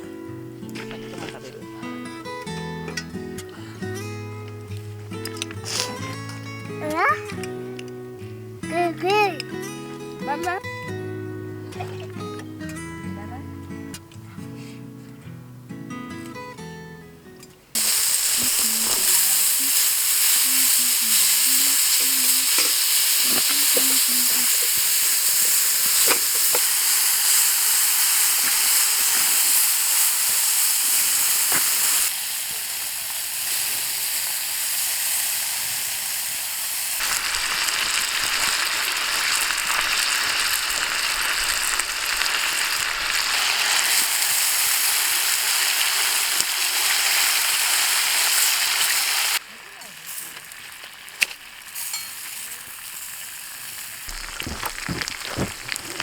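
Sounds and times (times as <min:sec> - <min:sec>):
steady sizzling hiss: 0:00.0 - 0:10.4, 0:17.8 - 0:56.0.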